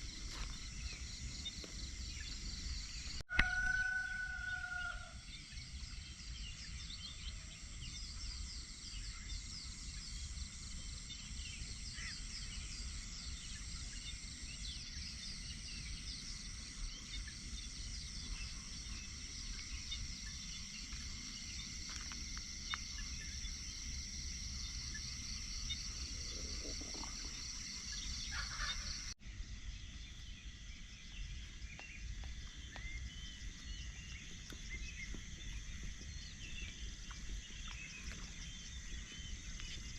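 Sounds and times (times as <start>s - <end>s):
high insect hum: 0.0s - 39.9s
small birds chirping: 4.8s - 39.9s.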